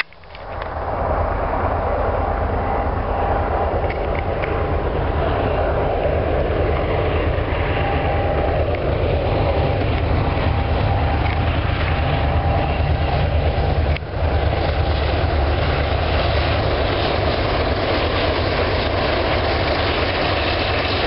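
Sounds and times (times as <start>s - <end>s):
freight train rumbling: 0.0s - 21.0s.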